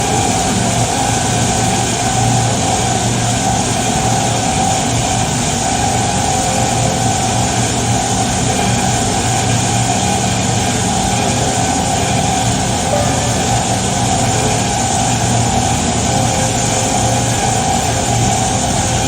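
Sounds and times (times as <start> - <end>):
stone-cutting saw humming: 0.0 - 19.0.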